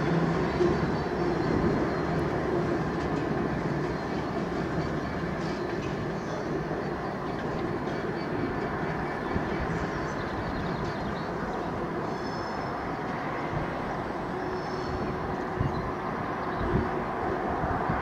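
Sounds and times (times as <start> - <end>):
diesel locomotive engine running: 0.0 - 18.0
train rumbling on track: 0.0 - 18.0.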